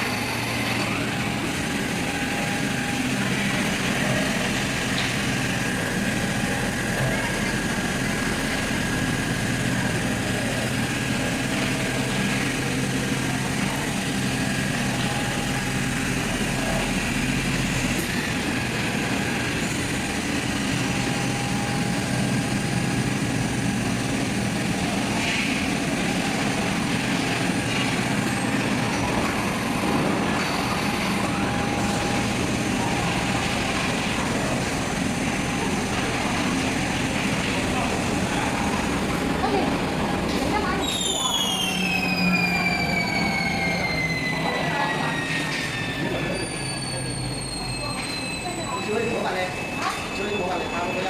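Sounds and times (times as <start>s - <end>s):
cutting machinery hum and whir: 0.0s - 51.0s.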